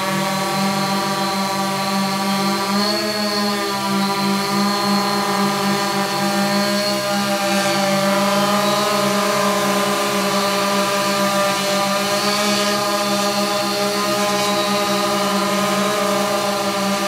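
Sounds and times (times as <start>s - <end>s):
drone motors humming: 0.0s - 17.0s.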